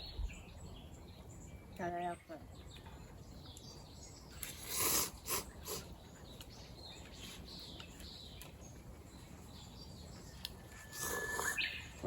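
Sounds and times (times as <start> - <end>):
faint bird chirps: 0.0 - 12.0
outdoor background noise: 0.0 - 12.0.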